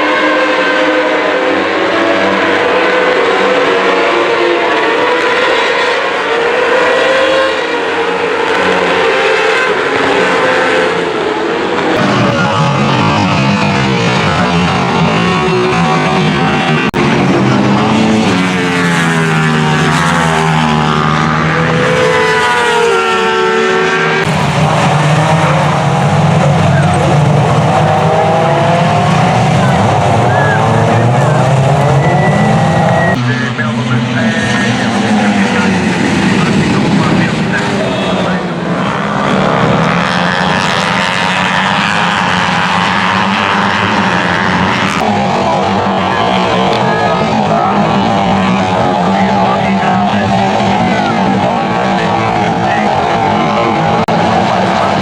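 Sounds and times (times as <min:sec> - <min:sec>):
racing engines passing: 0:00.0 - 0:55.0.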